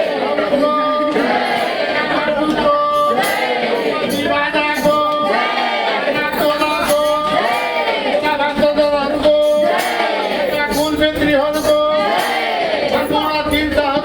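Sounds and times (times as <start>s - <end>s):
voices singing together: 0.0s - 14.0s.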